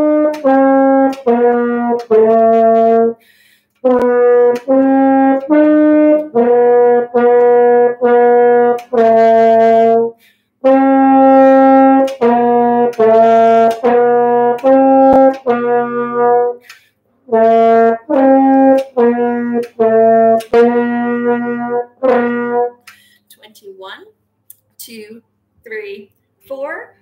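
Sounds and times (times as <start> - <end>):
french horn melody: 0.0 - 22.8.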